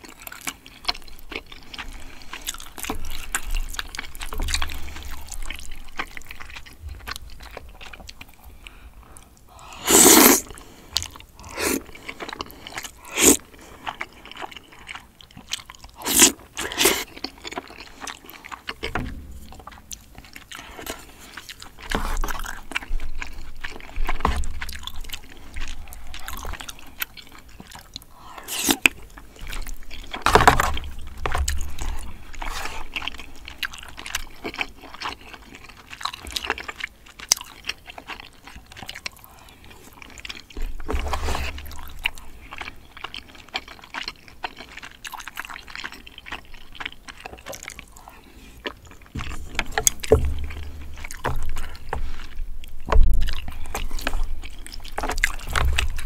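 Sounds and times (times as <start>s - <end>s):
wet chewing and slurping: 0.0s - 56.0s.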